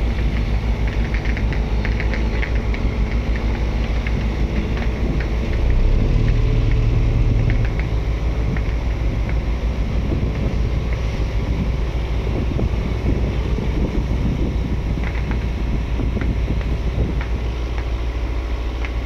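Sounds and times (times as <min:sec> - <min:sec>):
water rushing past hull: 0:00.0 - 0:18.8
boat diesel engine running: 0:00.0 - 0:19.0
wind buffeting microphone: 0:00.0 - 0:19.0.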